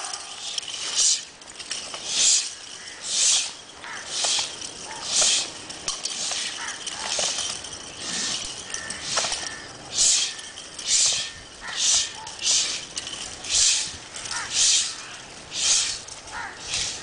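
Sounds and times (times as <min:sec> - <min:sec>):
nunchaku whooshing through air: 0:00.0 - 0:17.0.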